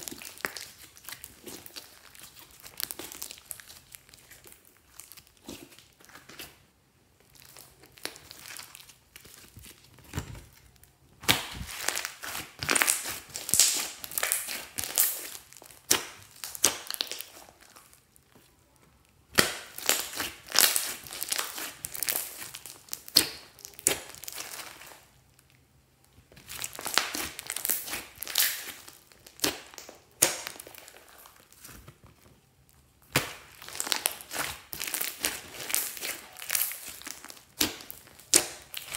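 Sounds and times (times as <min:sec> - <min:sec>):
slime squished crackling and popping: 0:00.0 - 0:06.6, 0:07.2 - 0:38.9.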